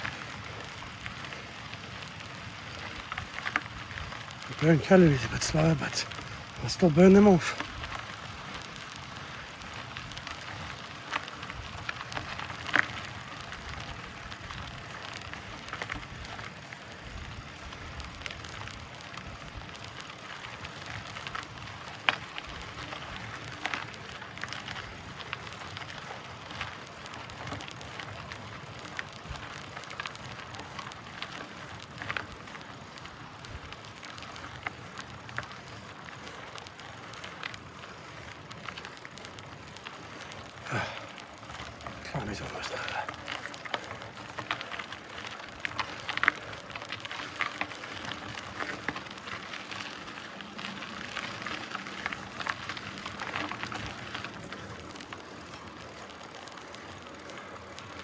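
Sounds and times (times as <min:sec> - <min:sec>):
bike tyres crackling over dirt: 0:00.0 - 0:58.0.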